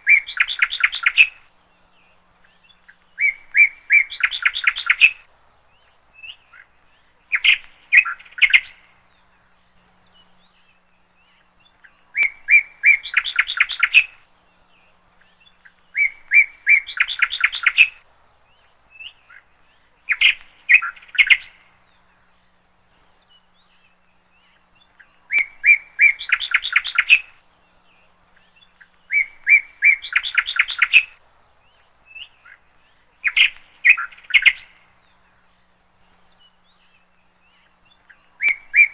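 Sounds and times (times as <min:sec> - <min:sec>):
songbird singing with trill: 0:00.0 - 0:38.9.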